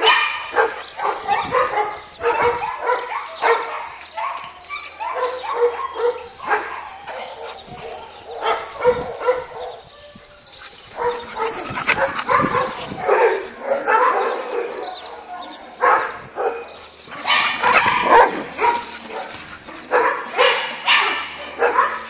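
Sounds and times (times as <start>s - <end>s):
dogs barking and yipping: 0.0s - 22.0s.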